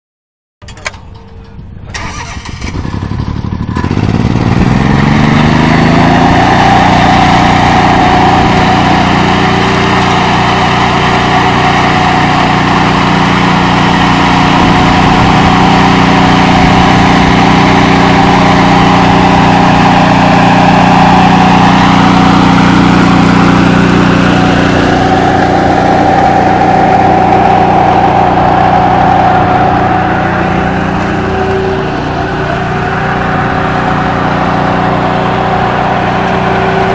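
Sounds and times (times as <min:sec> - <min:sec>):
power trowel engine running: 0:00.6 - 0:36.9.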